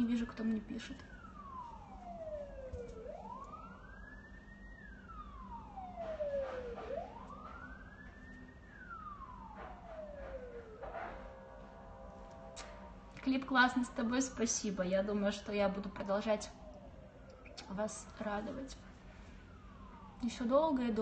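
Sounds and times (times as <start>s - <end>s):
emergency siren wailing: 0.0s - 21.0s.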